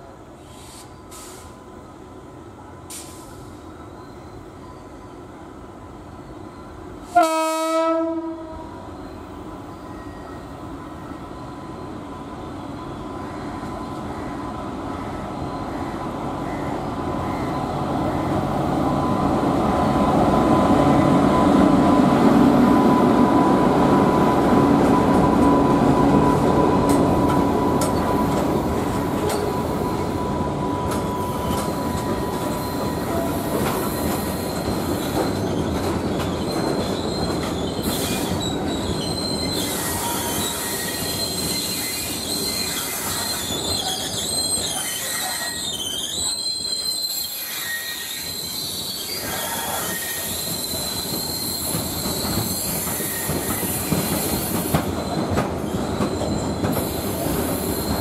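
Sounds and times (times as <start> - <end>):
electric locomotive passing: 0.0 - 58.0
wheels squealing on rails: 8.7 - 58.0.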